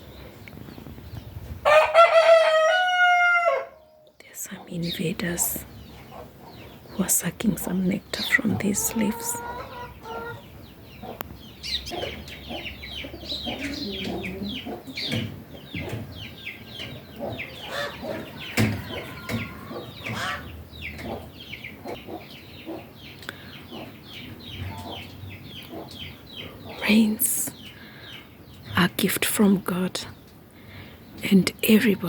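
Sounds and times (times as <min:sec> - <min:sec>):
chickens clucking: 0:04.5 - 0:32.0.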